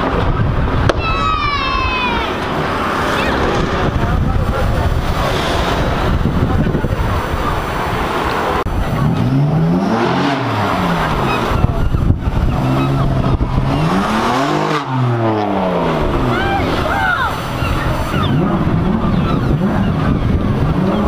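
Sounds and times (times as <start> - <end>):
sports car engine revving: 2.3 - 21.0.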